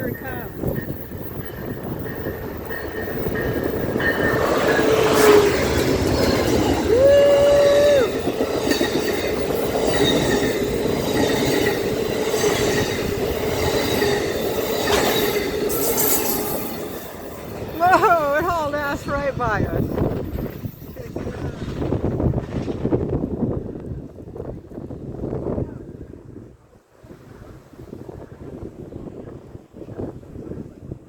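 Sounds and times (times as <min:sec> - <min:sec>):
train wheels rumbling on rails: 0:00.0 - 0:25.8.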